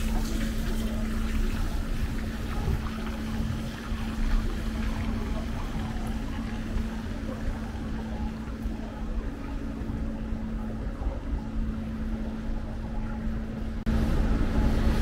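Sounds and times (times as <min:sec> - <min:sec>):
city street rumble: 0:00.0 - 0:15.0
constant drone: 0:00.0 - 0:15.0.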